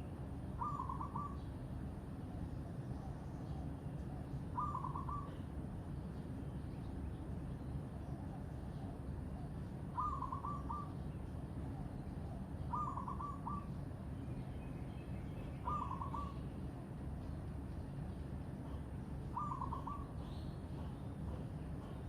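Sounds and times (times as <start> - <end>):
faint bird chirps: 0.0 - 22.0
steady low rumble: 0.0 - 22.0.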